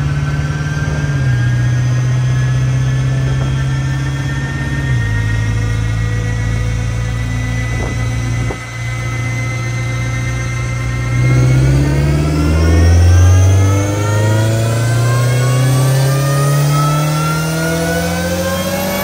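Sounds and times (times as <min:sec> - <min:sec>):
car engine revving at full throttle: 0:00.0 - 0:19.0.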